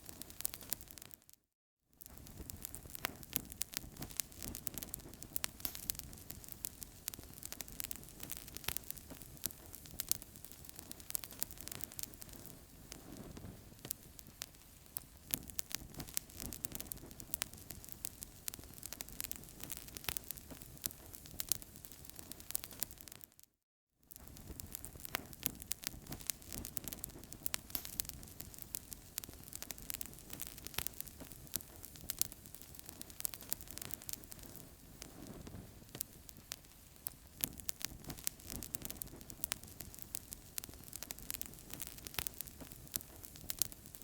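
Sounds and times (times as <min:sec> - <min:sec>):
wood fire crackling: 0:00.0 - 0:01.3, 0:02.0 - 0:23.4, 0:24.1 - 0:44.0.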